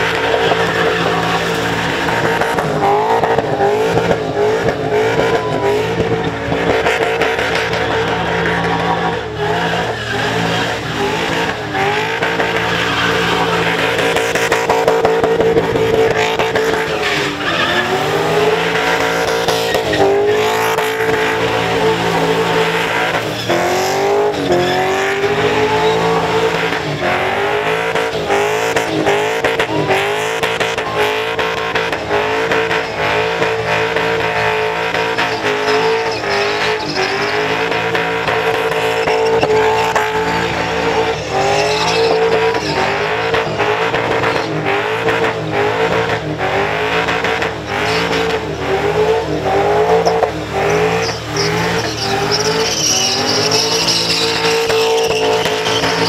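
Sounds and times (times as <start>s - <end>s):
car engine at high revs: 0.0s - 56.0s
spinning tyres hissing: 0.0s - 56.0s.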